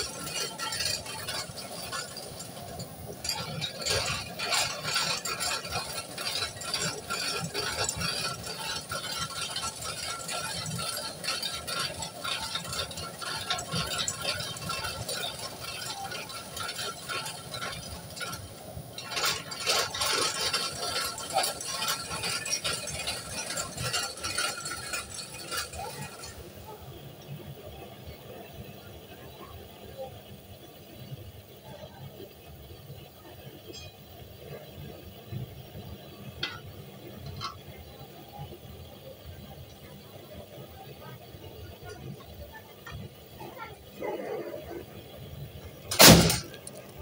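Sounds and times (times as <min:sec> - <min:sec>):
metallic rattling and clicking drum: 0:00.0 - 0:27.3, 0:33.4 - 0:47.0.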